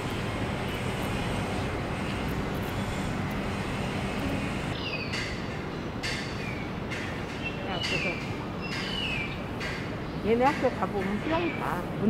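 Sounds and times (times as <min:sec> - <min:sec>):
traffic rumble and hiss: 0:00.0 - 0:12.0.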